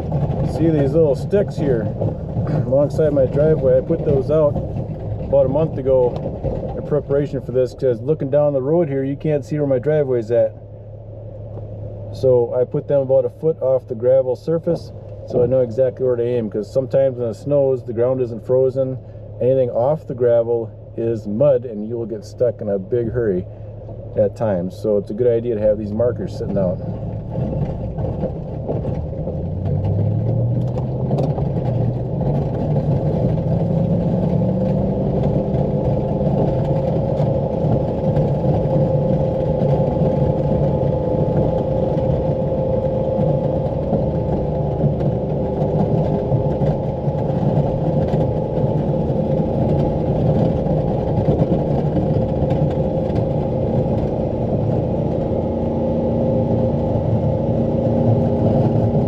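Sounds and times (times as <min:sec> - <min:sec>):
pickup truck engine revving: 0:00.0 - 0:59.0
plow pushing heavy snow: 0:00.0 - 0:59.0.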